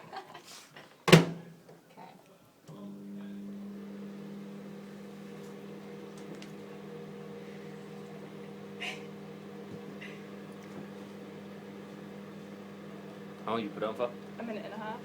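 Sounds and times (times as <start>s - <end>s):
microwave oven humming: 2.7s - 15.0s.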